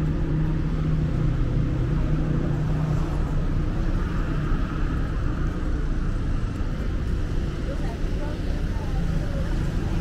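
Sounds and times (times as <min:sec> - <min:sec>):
low engine hum: 0:00.0 - 0:10.0
traffic rumble: 0:00.0 - 0:10.0.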